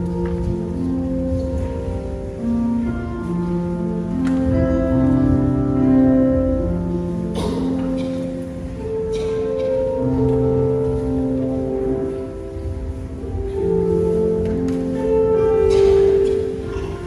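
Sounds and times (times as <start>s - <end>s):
slow keyboard music: 0.0s - 17.0s.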